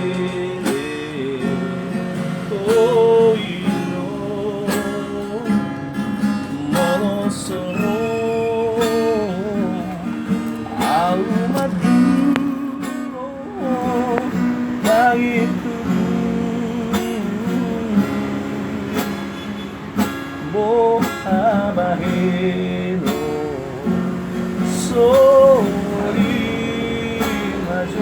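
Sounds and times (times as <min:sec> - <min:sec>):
person singing: 0:00.0 - 0:05.7, 0:06.5 - 0:19.1, 0:20.4 - 0:28.0
acoustic guitar strumming: 0:00.0 - 0:28.0.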